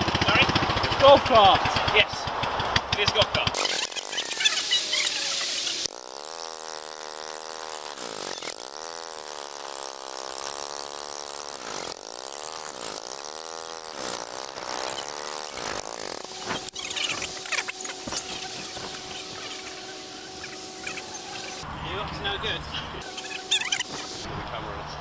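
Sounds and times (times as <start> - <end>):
golf cart engine buzzing: 0.0 - 21.7, 23.0 - 24.3.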